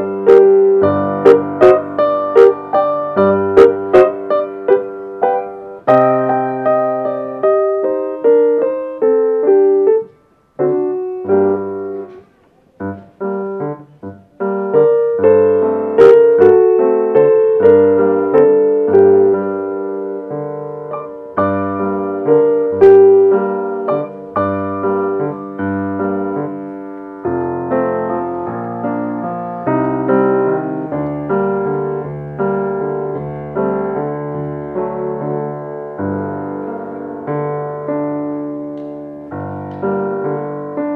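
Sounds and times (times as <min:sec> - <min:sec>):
solo piano classical piece: 0:00.0 - 0:40.9.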